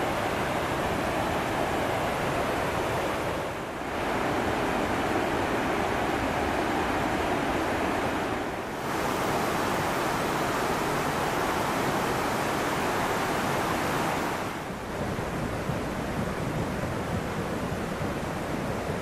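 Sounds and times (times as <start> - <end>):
river water rushing over cascades: 0.0 - 17.0.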